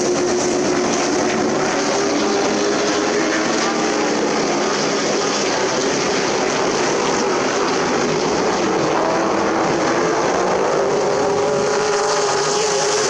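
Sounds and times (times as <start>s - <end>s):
race truck engines running: 0.0s - 13.0s.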